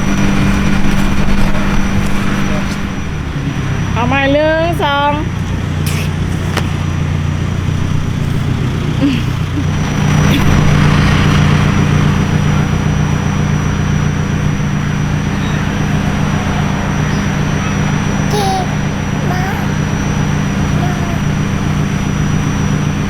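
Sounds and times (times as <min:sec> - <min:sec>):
road and wind noise: 0:00.0 - 0:23.0
vehicle engine humming: 0:00.0 - 0:23.0.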